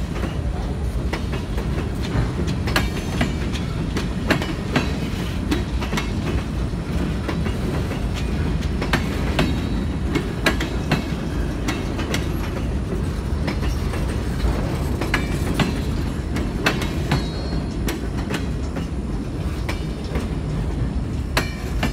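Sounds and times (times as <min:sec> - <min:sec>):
freight train rolling past: 0:00.0 - 0:21.9
wheels clicking over rail joints: 0:00.0 - 0:21.9.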